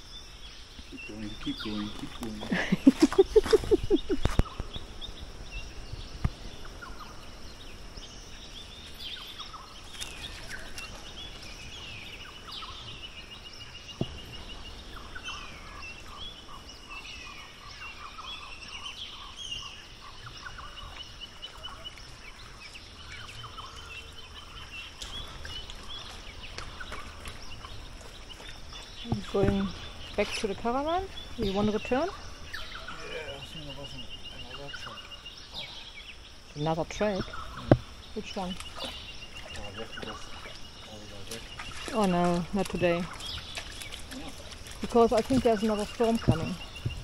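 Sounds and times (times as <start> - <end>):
birds calling: 0.0 - 47.0.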